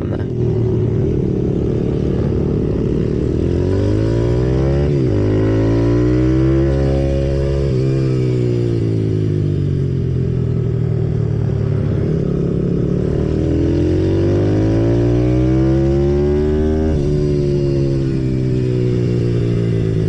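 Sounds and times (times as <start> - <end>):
motorbike engine revving: 0.0 - 10.1, 11.2 - 20.0.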